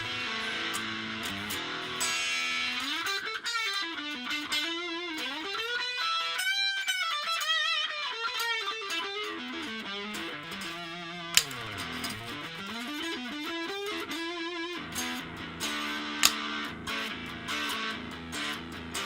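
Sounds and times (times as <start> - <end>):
electric guitar lead line: 0.0 - 19.0.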